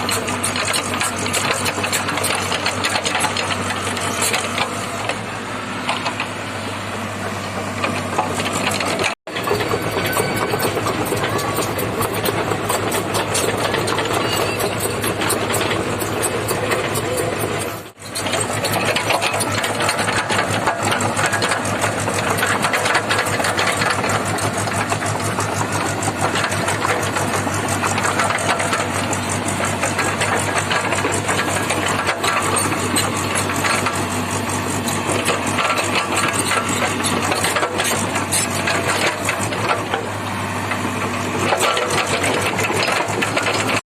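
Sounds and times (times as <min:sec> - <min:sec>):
excavator diesel engine clattering: 0:00.0 - 0:43.8.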